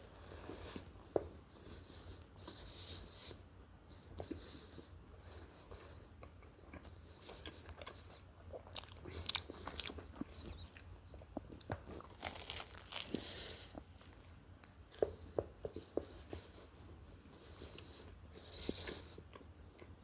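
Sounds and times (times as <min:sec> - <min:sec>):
person chewing sandwich: 0:00.0 - 0:20.0.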